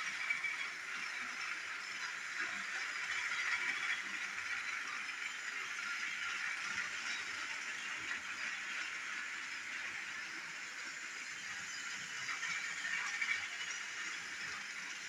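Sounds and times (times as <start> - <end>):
toy train motor whirring: 0.0 - 15.0
wheels rattling on track: 0.0 - 15.0.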